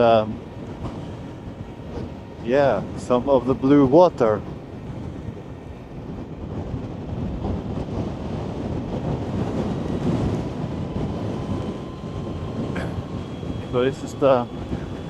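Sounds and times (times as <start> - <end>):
faint steady whine: 0.0 - 15.0
road and tyre rumble: 0.0 - 15.0
wind buffeting microphone: 0.0 - 15.0.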